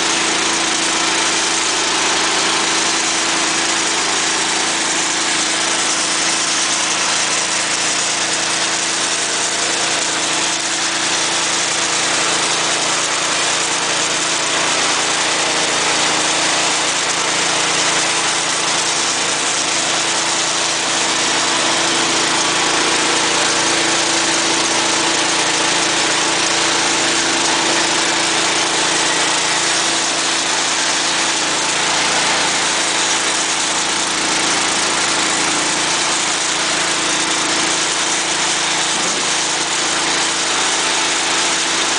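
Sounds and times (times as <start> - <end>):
petrol engine running steadily: 0.0 - 41.9.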